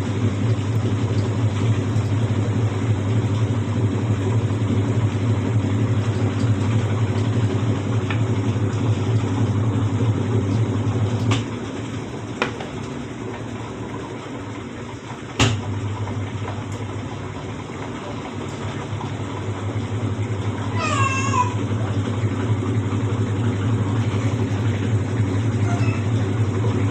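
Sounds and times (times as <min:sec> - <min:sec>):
washing machine motor hum: 0:00.0 - 0:26.9.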